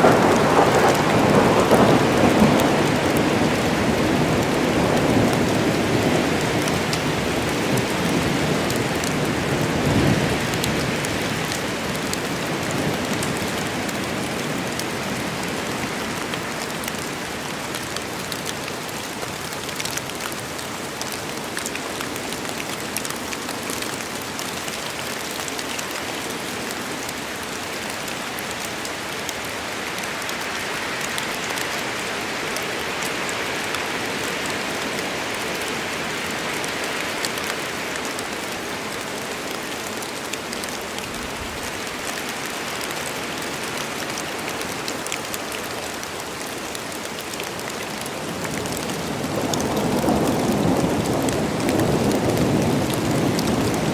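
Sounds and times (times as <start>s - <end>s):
rain falling in forest: 0.0s - 53.9s.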